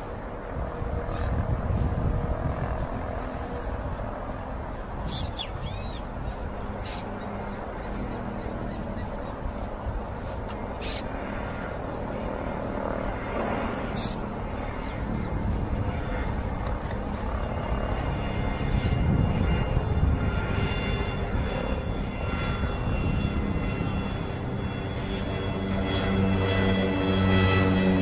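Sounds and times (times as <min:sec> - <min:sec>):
turboprop engines droning: 0:00.0 - 0:28.0.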